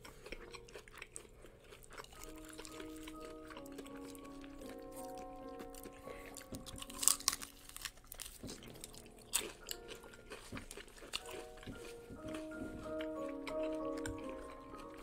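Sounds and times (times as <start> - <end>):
crunching fried chicken: 0.0 - 15.0
wet chewing: 0.0 - 15.0.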